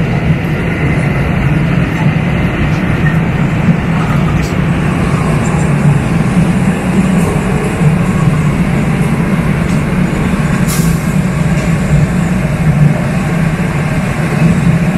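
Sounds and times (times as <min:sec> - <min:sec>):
train equipment hum and rumble: 0:00.0 - 0:14.9.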